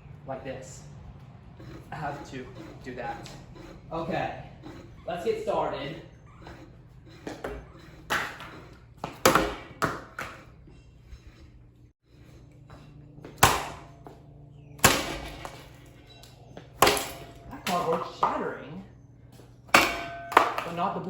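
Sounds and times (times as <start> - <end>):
faint motor hum: 0.0 - 21.0.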